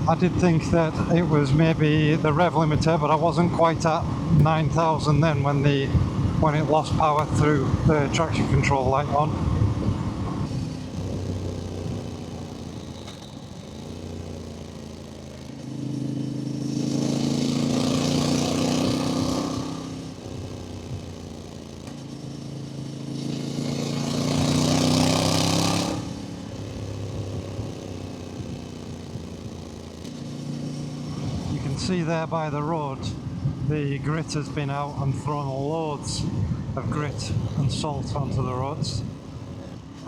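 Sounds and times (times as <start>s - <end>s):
motorcycle engine accelerating hard: 0.0s - 40.0s.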